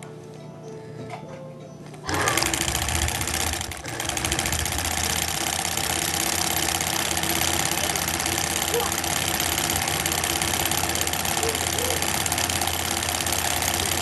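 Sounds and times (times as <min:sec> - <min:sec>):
sewing machine clattering: 0:02.1 - 0:14.0.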